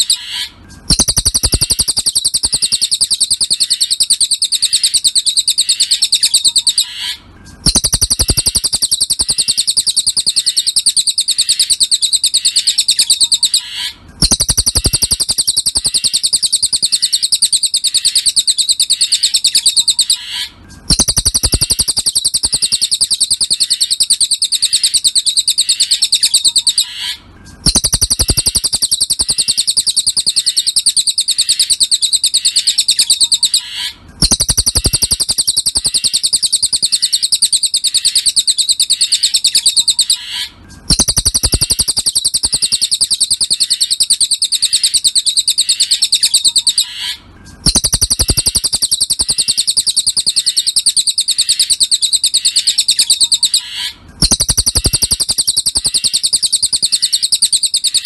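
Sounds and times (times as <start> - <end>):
bird trilling: 0.0 - 58.0.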